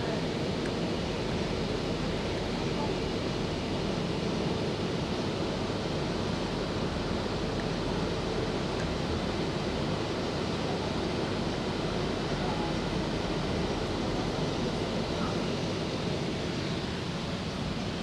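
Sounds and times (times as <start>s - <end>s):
metro train rumbling on track: 0.0s - 18.0s.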